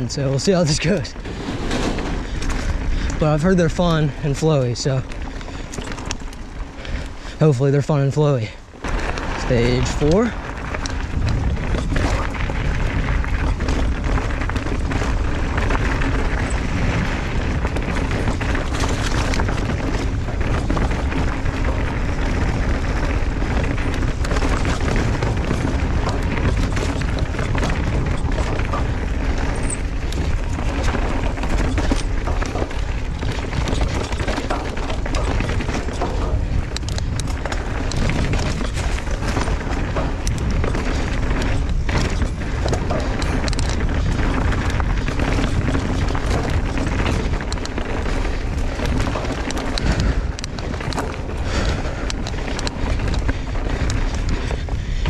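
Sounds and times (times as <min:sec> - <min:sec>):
bike clattering over bumps: 0:00.0 - 0:55.0
tyres rolling on dirt: 0:00.0 - 0:55.0
wind buffeting microphone: 0:00.0 - 0:55.0.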